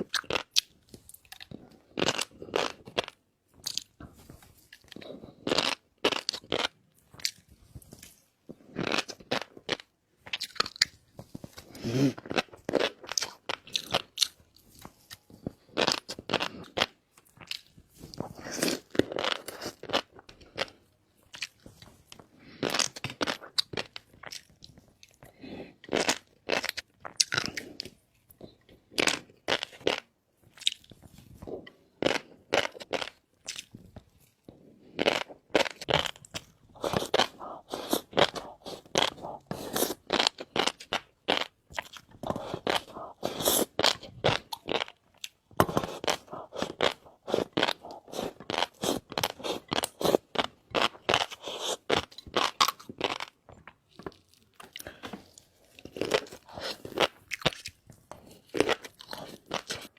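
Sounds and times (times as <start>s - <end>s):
crunchy food being chewed: 0.0s - 59.9s.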